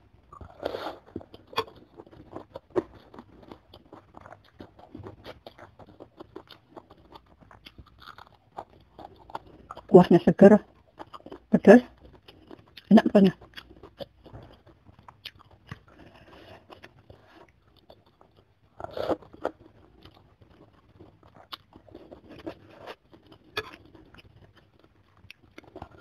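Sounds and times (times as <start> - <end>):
slurping and chewing noodles: 0.0 - 26.0.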